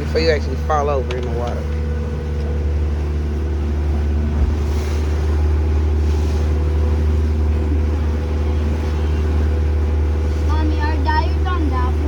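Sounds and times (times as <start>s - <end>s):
boat motor droning: 0.0s - 12.0s
water noise: 0.0s - 12.0s
wind: 0.0s - 12.0s.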